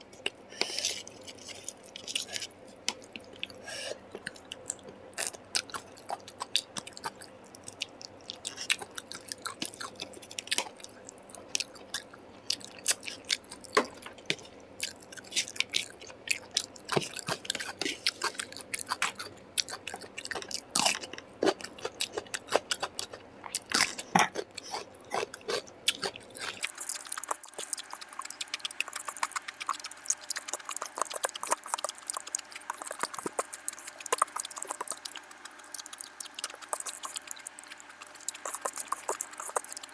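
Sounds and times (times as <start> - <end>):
low background hum: 0.0 - 39.9
person chewing food: 0.0 - 39.9.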